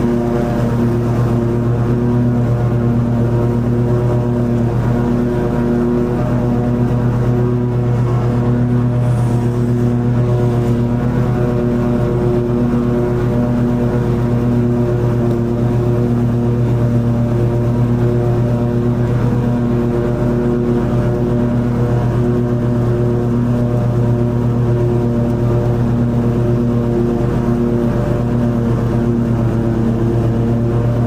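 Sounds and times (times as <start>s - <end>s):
lawn mower engine droning: 0.0s - 31.0s.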